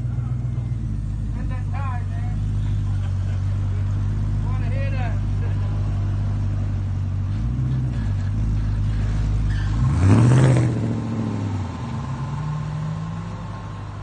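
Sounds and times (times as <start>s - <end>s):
car engine exhaust drone: 0.0s - 14.0s.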